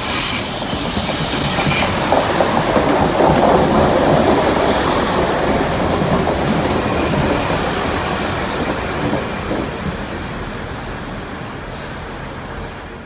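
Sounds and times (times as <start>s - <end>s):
train running past: 0.0s - 13.0s.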